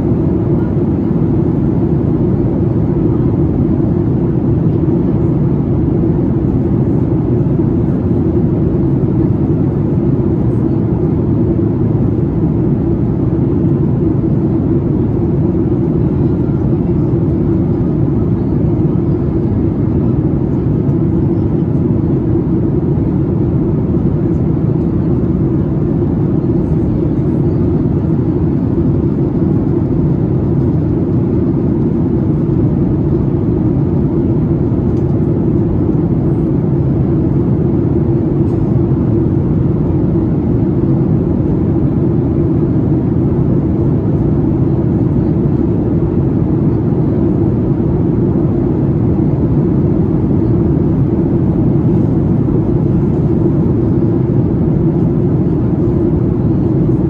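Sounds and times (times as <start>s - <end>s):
airflow rush in cabin: 0.0s - 57.0s
jet engine hum: 0.0s - 57.0s.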